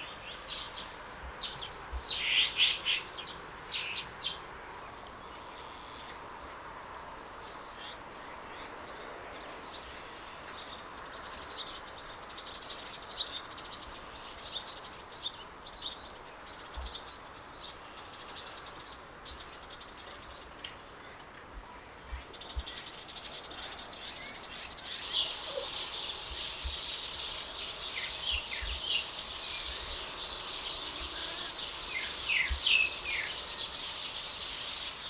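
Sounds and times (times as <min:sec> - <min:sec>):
small birds chirping: 0:00.0 - 0:35.0
steady background noise: 0:00.0 - 0:35.0.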